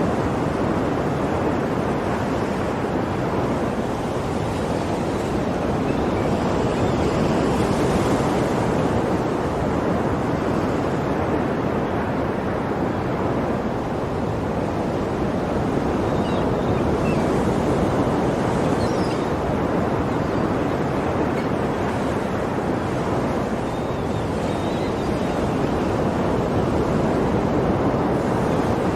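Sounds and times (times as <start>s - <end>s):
ocean waves washing: 0.0s - 28.9s.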